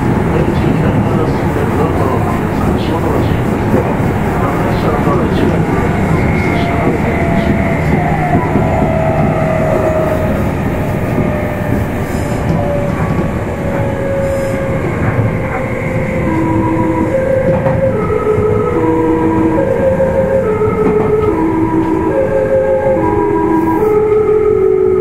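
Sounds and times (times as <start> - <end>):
electric train rolling on rails: 0.0 - 25.0.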